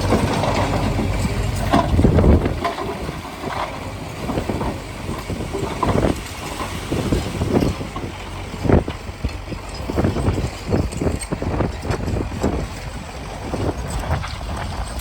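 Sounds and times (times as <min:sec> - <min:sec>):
diesel engine rumbling: 0:00.0 - 0:15.0
machinery knocks and clanks: 0:00.0 - 0:15.0.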